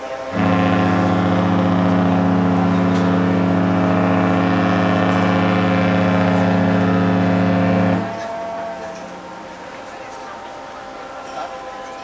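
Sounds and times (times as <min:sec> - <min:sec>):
ship horn deep blast: 0:00.0 - 0:11.1.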